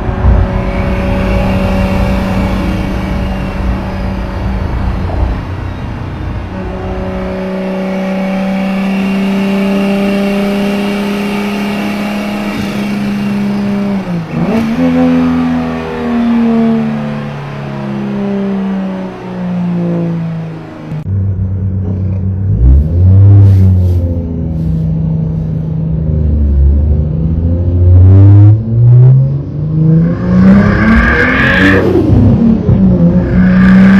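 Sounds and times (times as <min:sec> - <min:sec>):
car engine running: 0:00.0 - 0:27.2.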